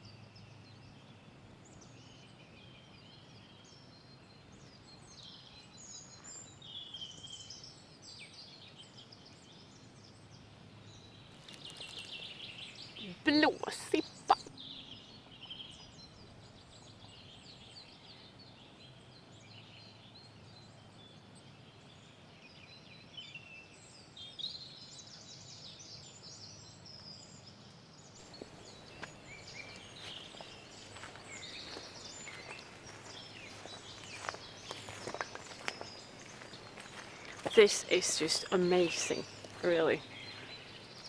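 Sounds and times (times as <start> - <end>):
outdoor background: 0.0 - 41.0
songbirds chirping and trilling: 0.0 - 41.0.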